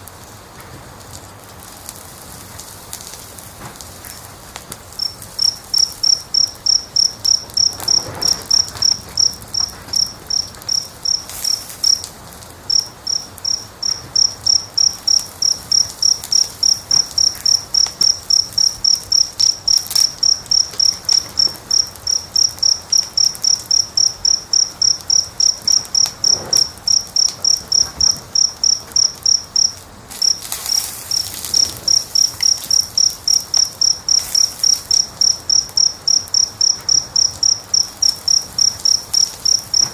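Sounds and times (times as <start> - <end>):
insect chirping: 4.9 - 39.9.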